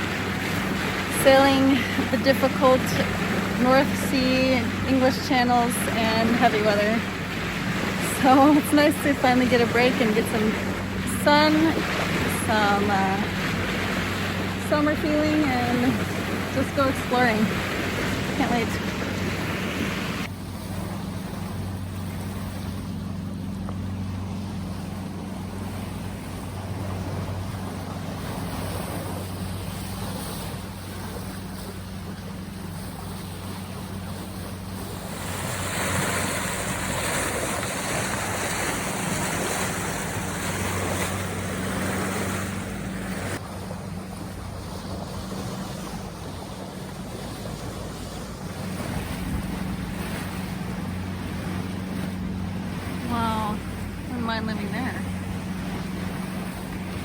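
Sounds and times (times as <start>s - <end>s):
boat engine humming: 0.0s - 57.0s
water rushing: 0.0s - 57.0s.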